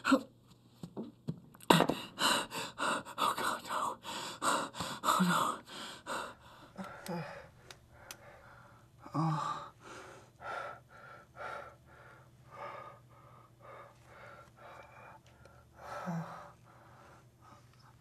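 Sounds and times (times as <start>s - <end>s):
person gasping and breathing heavily: 1.6s - 17.6s.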